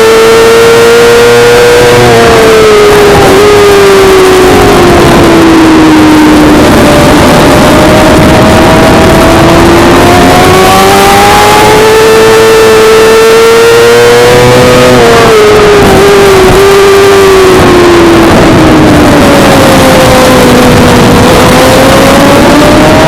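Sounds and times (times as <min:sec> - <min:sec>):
motorcycle engine at high revs: 0:00.0 - 0:23.0
wind rush: 0:00.0 - 0:23.0.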